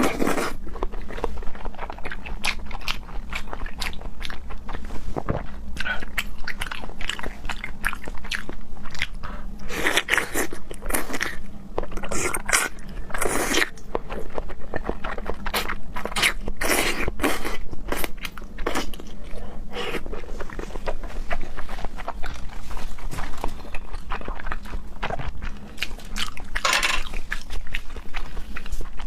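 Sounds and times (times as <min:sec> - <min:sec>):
person chewing wetly: 0:00.0 - 0:29.0.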